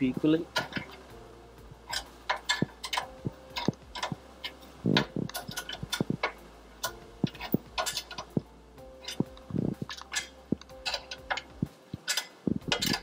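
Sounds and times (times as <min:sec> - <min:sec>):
spanner clicking on metal nuts: 0:00.5 - 0:01.1, 0:01.8 - 0:13.0.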